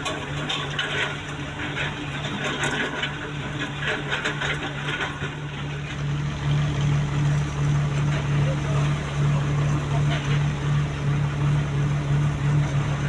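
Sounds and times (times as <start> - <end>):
excavator diesel engine running: 0.0 - 13.0
machine rattling and scraping: 0.0 - 13.0.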